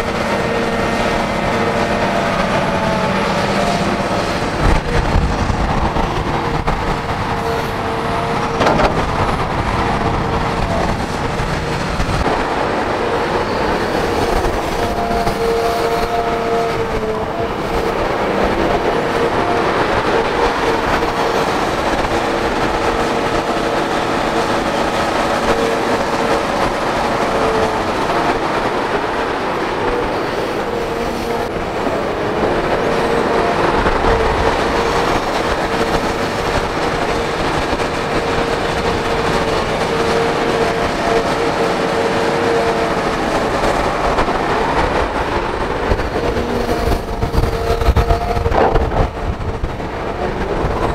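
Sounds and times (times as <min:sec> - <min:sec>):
excavator engine and hydraulics: 0:00.0 - 0:50.9.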